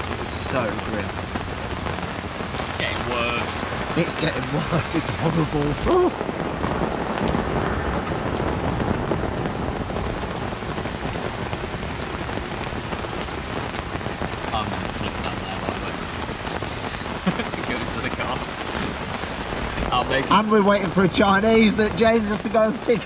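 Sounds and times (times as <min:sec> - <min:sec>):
heavy rain on water: 0:00.0 - 0:23.0.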